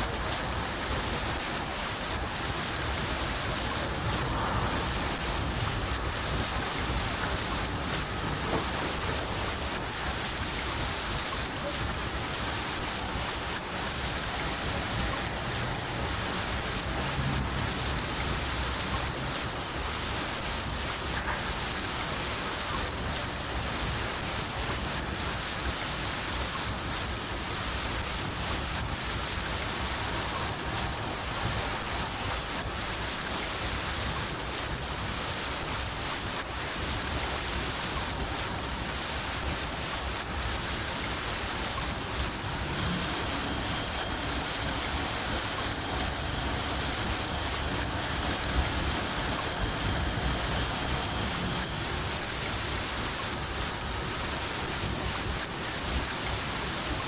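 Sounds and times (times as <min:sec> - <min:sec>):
cricket chirping: 0:00.0 - 0:57.0
falling rain hiss: 0:00.0 - 0:57.0.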